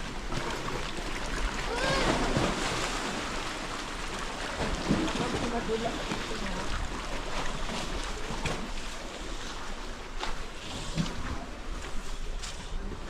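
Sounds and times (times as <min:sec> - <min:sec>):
surf: 0:00.0 - 0:13.0
wind: 0:00.0 - 0:13.0.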